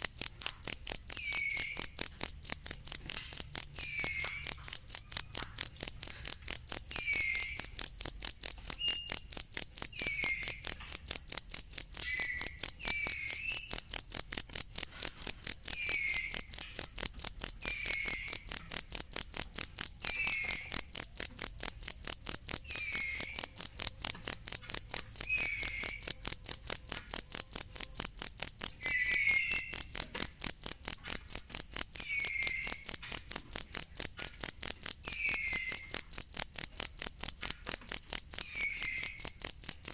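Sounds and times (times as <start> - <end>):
cricket trilling: 0.0 - 39.9.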